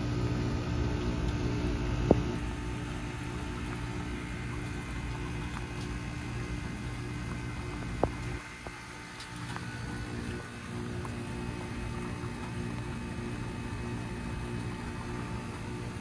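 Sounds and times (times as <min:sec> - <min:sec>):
heat pump humming: 0:00.0 - 0:16.0.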